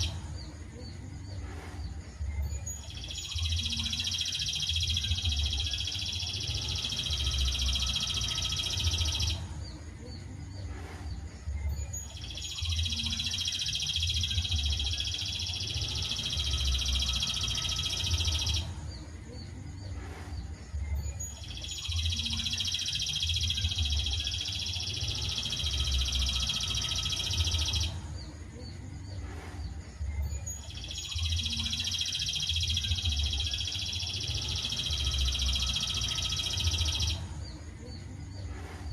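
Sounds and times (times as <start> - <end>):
trilling bird song: 0.0 - 38.9.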